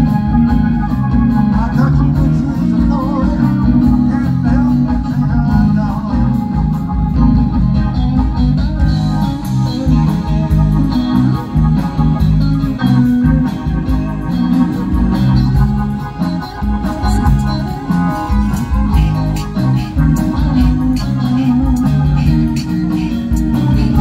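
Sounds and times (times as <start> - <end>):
steady drumbeat: 0.0 - 24.0
sustained organ chords: 0.0 - 24.0.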